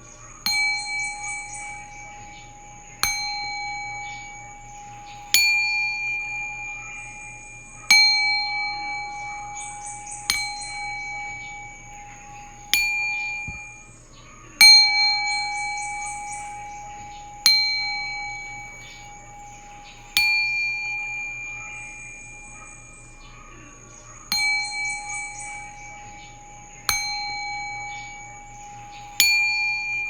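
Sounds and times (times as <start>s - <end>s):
singing bowl ringing: 0.0s - 30.0s.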